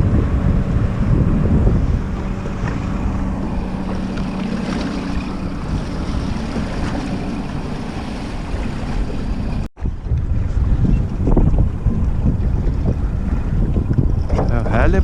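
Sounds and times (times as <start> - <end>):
water: 0.0 - 15.0
wind buffeting microphone: 0.0 - 15.0.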